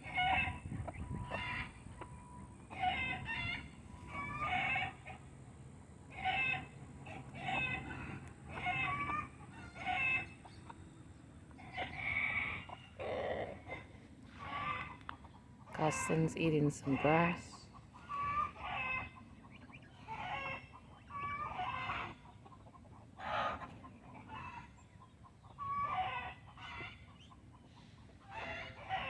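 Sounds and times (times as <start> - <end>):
chickens squawking and clucking: 0.0 - 29.0.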